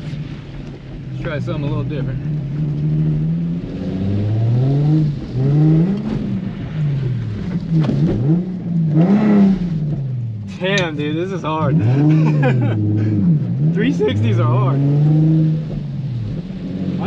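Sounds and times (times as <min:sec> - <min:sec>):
car engine revving hard: 0:01.1 - 0:17.0.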